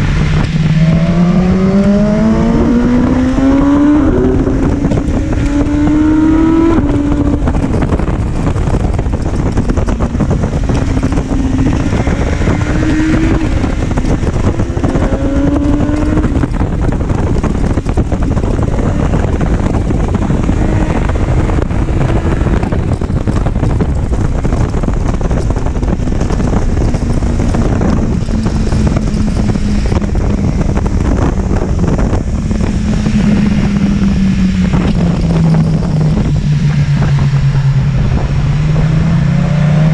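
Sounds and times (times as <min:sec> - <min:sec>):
motorcycle engine accelerating: 0:00.0 - 0:39.9
wind buffeting microphone: 0:00.0 - 0:39.9.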